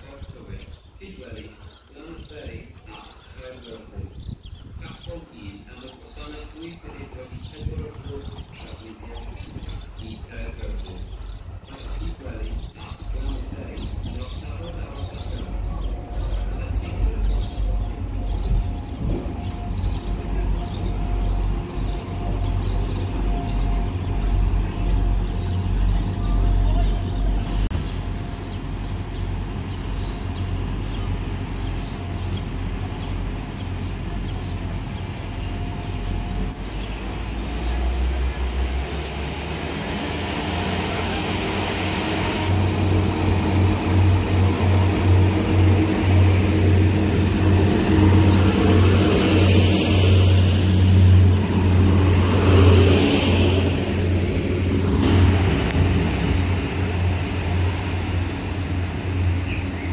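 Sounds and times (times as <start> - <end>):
diesel train engine: 0.0 - 59.9.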